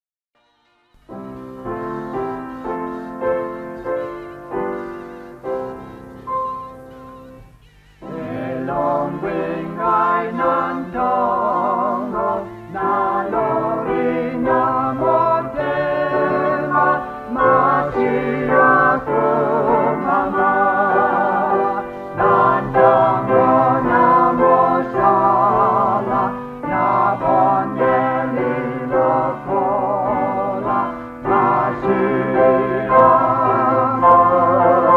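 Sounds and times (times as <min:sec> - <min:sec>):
keyboard chords: 0:01.0 - 0:34.9
voices singing with vibrato: 0:01.3 - 0:34.9.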